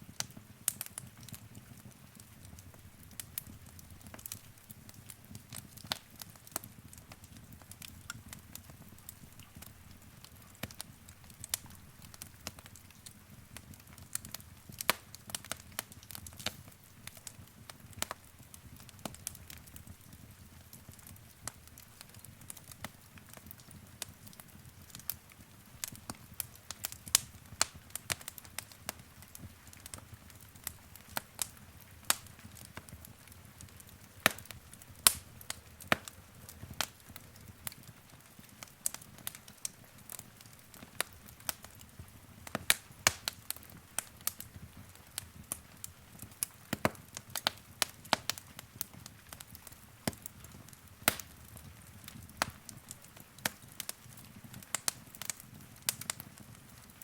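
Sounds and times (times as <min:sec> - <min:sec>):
wood fire popping and snapping: 0:00.0 - 0:57.0.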